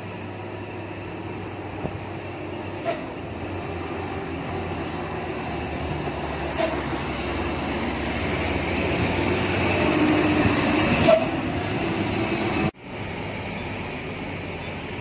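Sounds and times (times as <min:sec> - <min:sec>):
truck diesel engine labouring: 0:00.0 - 0:15.0.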